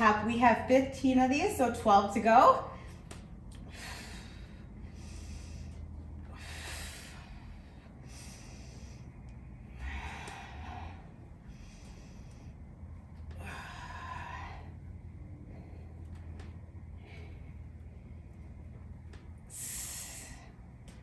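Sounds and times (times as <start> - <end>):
low steady hum: 0.0 - 21.0
woman breathing hard: 2.7 - 21.0.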